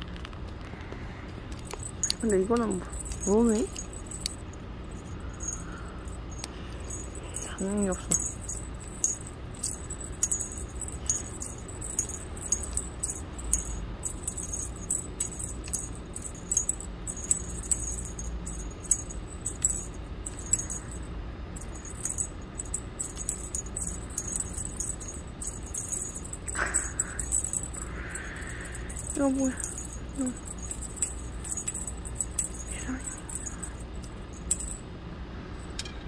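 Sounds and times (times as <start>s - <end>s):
steady low hum: 0.0s - 36.0s
wand toy jingling: 1.5s - 34.9s.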